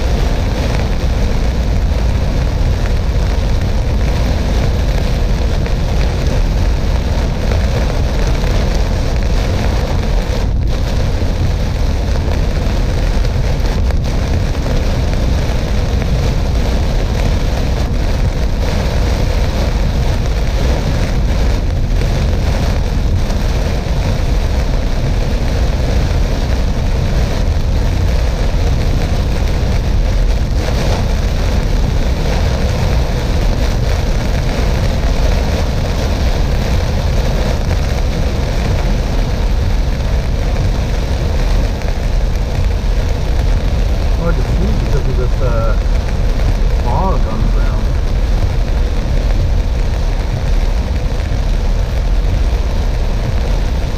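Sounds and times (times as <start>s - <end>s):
car road and wind rumble: 0.0s - 53.9s
rain on car: 0.0s - 53.9s.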